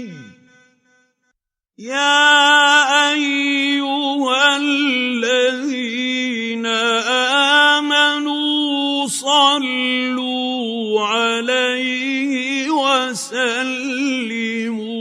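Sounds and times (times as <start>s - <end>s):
person reciting melodically: 0.0s - 0.5s, 1.8s - 15.0s.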